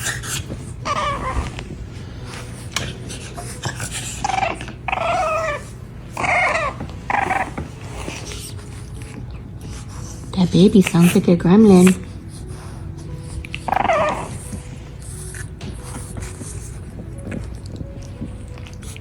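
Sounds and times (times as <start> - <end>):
puppy grumbling growls and whines: 0.0 - 19.0.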